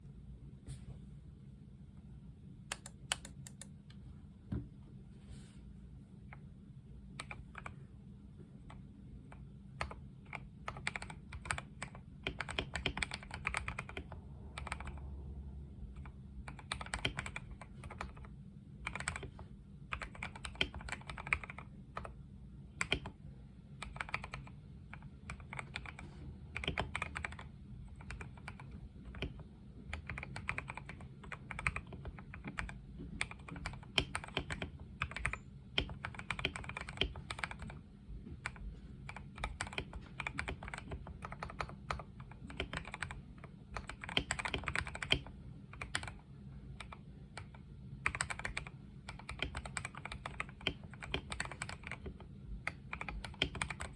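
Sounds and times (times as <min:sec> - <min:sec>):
mechanical keyboard typing: 0:02.7 - 0:03.7, 0:07.1 - 0:07.8, 0:08.6 - 0:15.2, 0:15.8 - 0:23.2, 0:23.8 - 0:37.8, 0:38.4 - 0:53.9.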